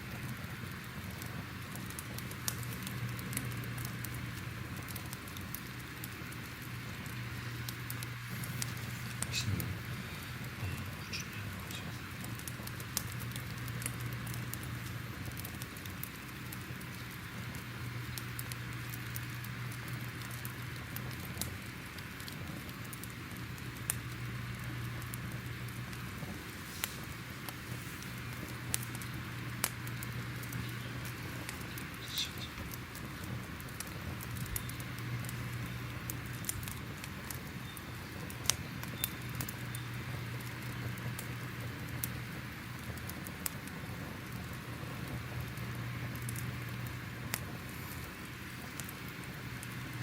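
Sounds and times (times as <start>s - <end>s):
low steady hum: 0.0s - 50.0s
wood fire crackling: 0.0s - 50.0s.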